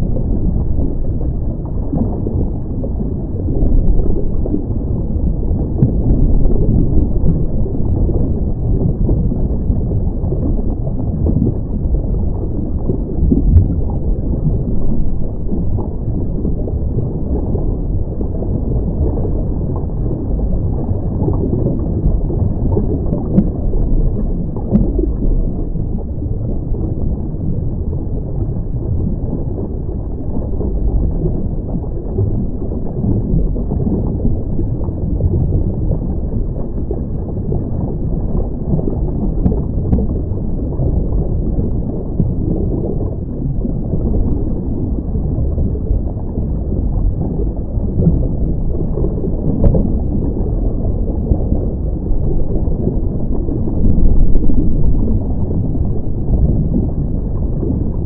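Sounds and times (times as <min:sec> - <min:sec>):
muffled underwater rumble: 0:00.0 - 0:58.0.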